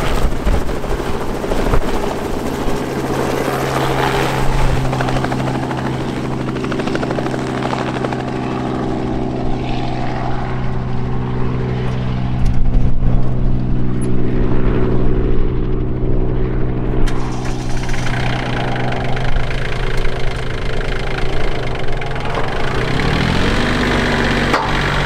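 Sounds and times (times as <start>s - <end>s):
helicopter rotor beating: 0.0s - 25.0s
piston engine drone: 0.0s - 25.0s.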